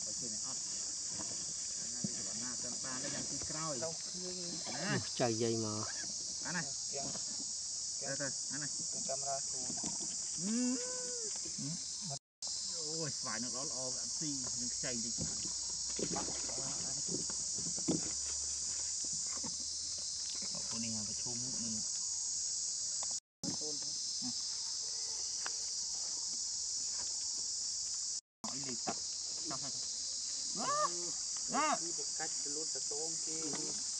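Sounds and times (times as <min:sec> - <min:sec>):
high-pitched insect chorus: 0:00.0 - 0:33.9.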